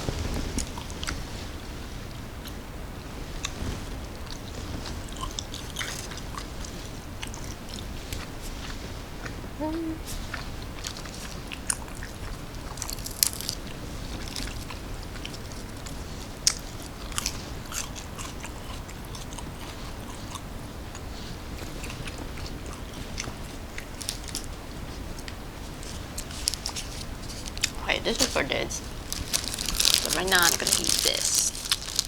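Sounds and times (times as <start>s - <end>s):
person chewing crunchy snack: 4.2s - 9.4s, 10.1s - 27.8s, 28.8s - 32.0s.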